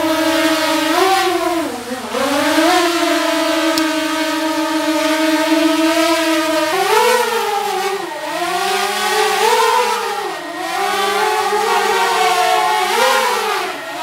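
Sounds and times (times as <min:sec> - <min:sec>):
drone propeller whine: 0:00.0 - 0:14.0.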